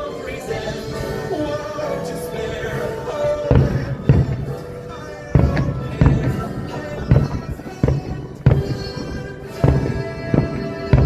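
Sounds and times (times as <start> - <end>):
fireworks booming: 0.0 - 11.0
orchestral music: 0.0 - 11.0.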